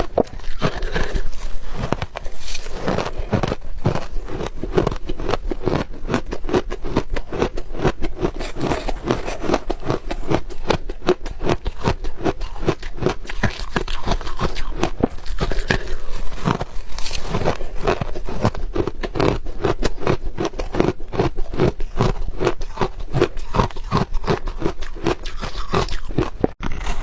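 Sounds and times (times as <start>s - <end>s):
chewing crunchy ice: 0.0s - 27.0s.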